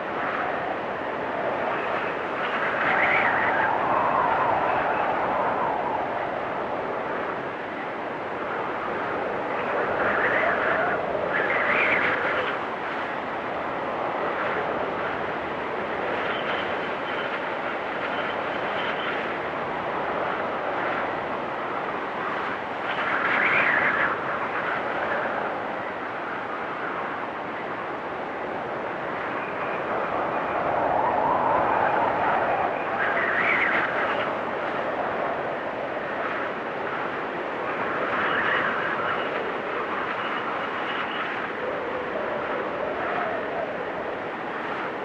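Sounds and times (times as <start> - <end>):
storm wind gusting: 0.0 - 45.0.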